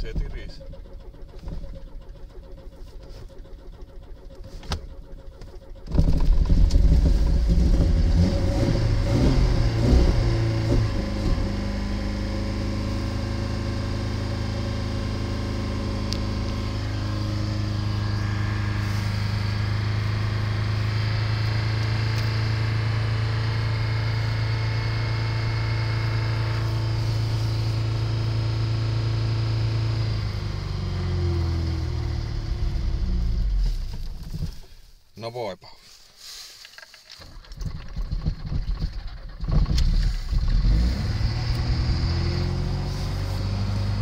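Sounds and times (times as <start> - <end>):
car engine starting and idling: 0.0 - 44.0.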